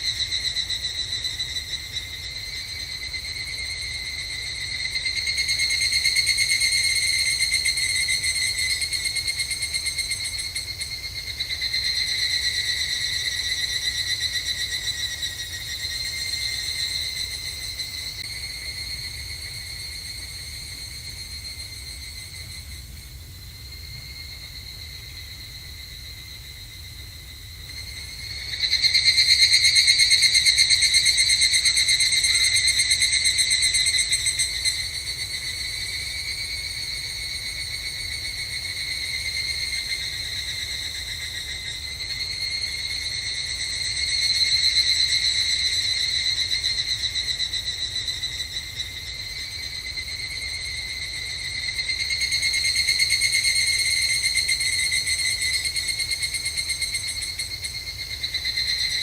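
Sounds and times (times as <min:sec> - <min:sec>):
cicadas singing: 0:00.0 - 0:59.0.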